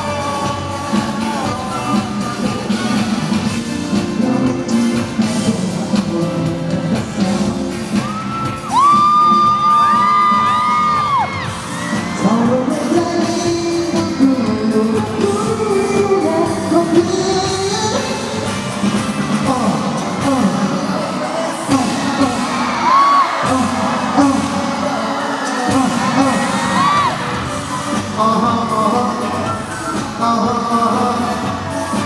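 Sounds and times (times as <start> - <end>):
live pop concert music with singing: 0.0 - 32.0.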